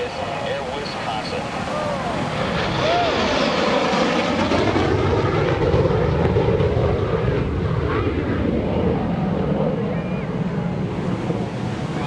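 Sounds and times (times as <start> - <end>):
jet engine roaring in afterburner: 0.0 - 12.0.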